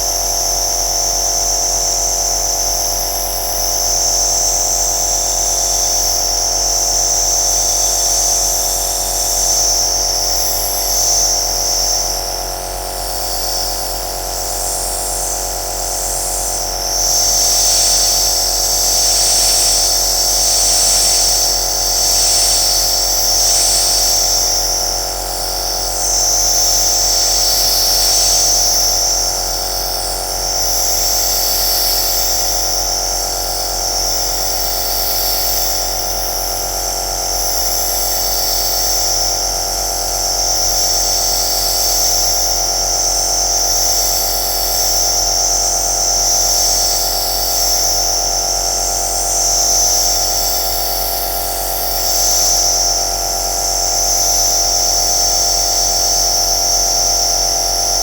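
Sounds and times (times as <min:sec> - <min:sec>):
nebulizer motor hum: 0:00.0 - 0:58.0.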